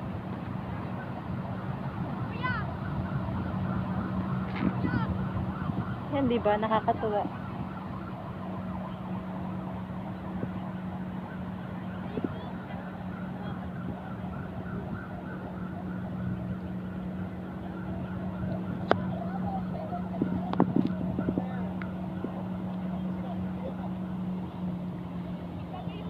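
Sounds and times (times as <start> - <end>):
low engine hum: 0.0 - 26.0
wavering siren: 0.0 - 26.0.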